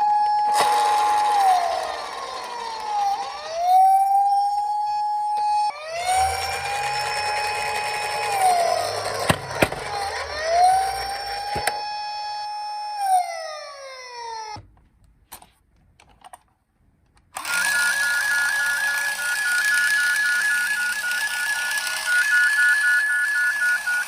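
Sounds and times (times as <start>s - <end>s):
toy police siren wailing: 0.0s - 14.6s, 17.4s - 24.0s.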